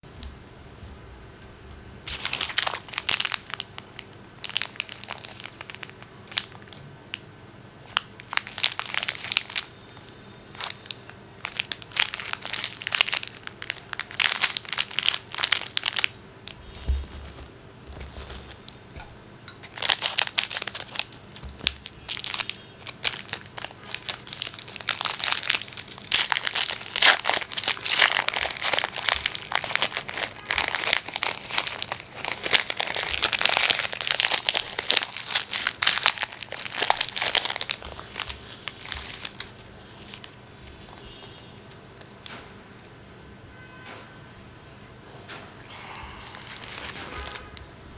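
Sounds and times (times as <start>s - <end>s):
plastic wrappers crinkling and tearing: 2.0s - 7.2s, 7.8s - 42.3s, 46.1s - 47.9s.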